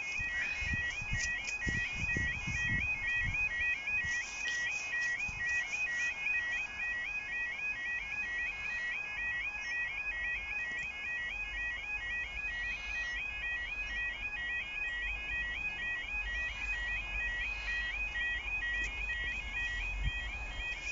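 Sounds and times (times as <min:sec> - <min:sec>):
level crossing alarm warbling: 0:00.0 - 0:20.9.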